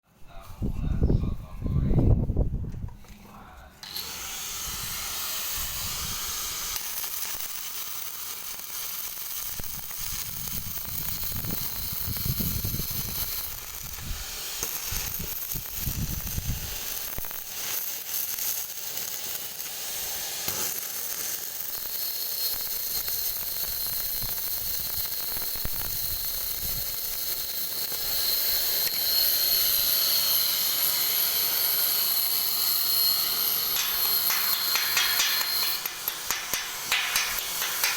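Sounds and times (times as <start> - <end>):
welding arc crackling and sizzling: 3.8 - 37.9.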